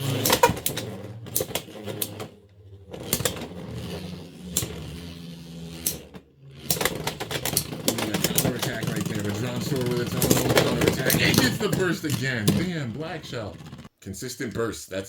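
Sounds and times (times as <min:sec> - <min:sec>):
spinning tops whirring: 0:00.0 - 0:13.9.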